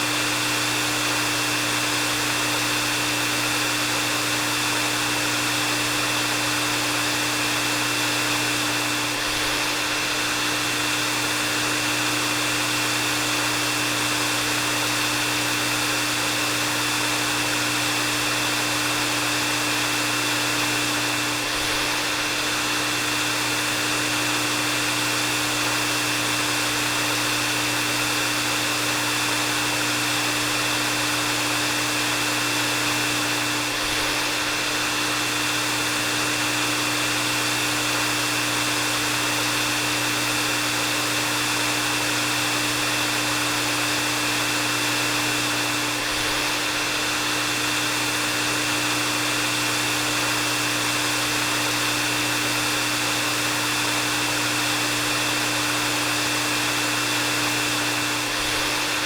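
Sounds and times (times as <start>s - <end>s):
hair dryer blowing air: 0.0s - 59.0s.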